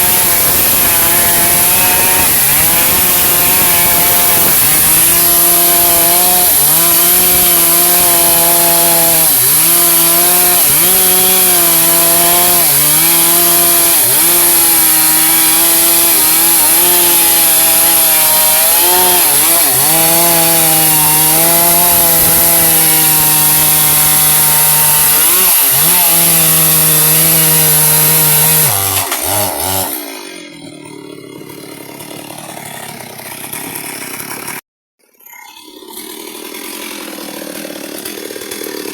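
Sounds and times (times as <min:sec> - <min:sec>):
chainsaw cutting wood: 0:00.0 - 0:34.6, 0:35.6 - 0:38.9.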